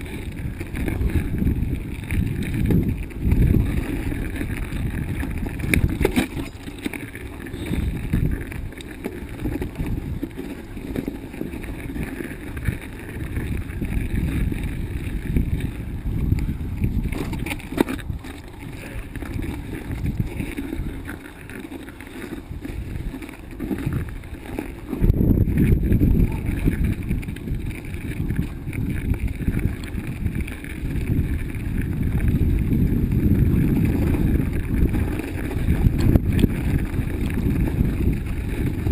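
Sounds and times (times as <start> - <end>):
bicycle rumbling over rough trail: 0.0 - 38.9
wind on microphone: 0.0 - 38.9.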